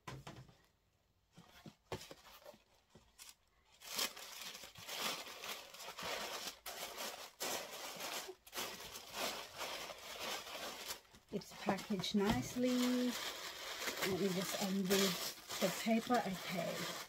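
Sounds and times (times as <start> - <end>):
paper crinkling and rustling: 1.5 - 17.0.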